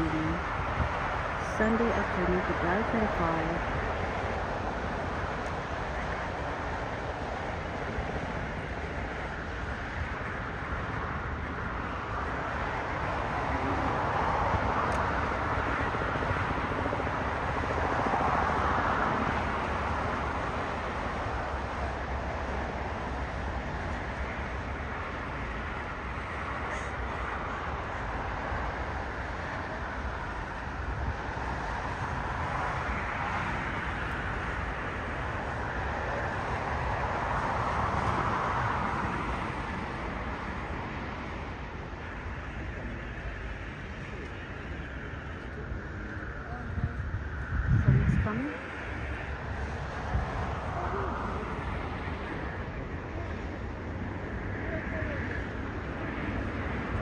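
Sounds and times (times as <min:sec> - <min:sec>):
jet engines idling: 0:00.0 - 0:57.0.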